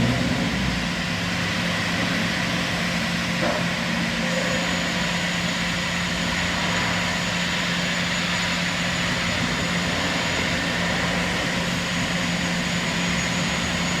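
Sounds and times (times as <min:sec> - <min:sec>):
high-pitched whine: 0:00.0 - 0:14.0
metro train humming: 0:00.0 - 0:14.0.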